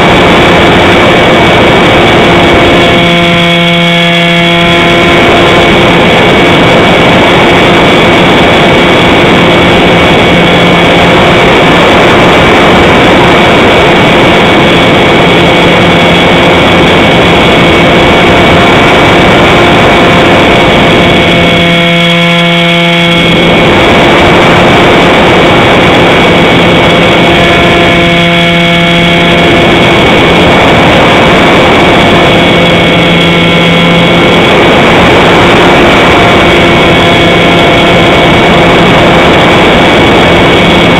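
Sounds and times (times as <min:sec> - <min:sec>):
model plane motor whine: 0:00.0 - 0:40.9
wind rush on microphone: 0:00.0 - 0:40.9.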